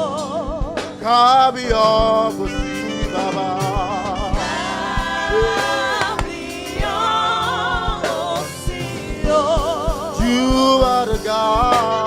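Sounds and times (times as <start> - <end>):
gospel choir singing: 0.0 - 12.0
steady drum beat: 0.0 - 12.0
sustained keyboard chords: 0.0 - 12.0.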